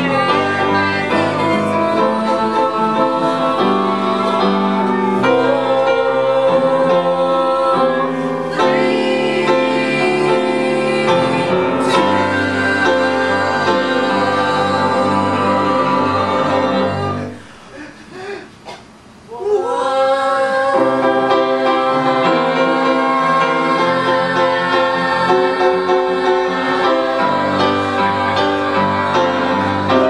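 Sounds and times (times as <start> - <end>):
piano accompaniment: 0.0 - 17.7, 20.7 - 30.0
group of singers singing: 0.0 - 17.9, 19.6 - 30.0.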